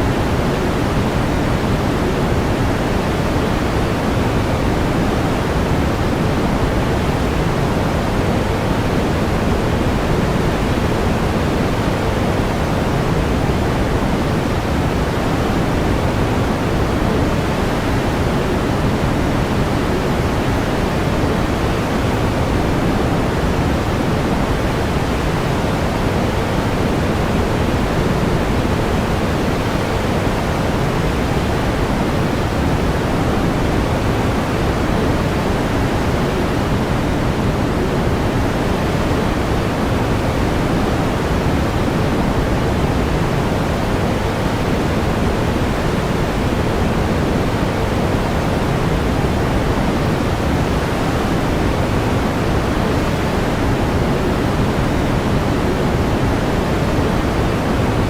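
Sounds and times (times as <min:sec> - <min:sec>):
steady pink noise: 0:00.0 - 0:58.0.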